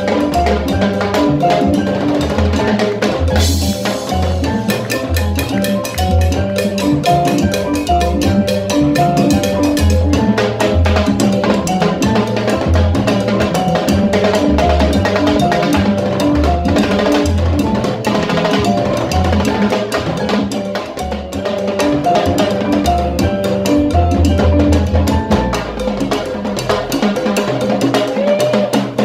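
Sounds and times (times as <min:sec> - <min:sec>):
keyboard figures: 0:00.0 - 0:27.5
upright bass line: 0:00.0 - 0:28.3
congas: 0:00.0 - 0:29.0.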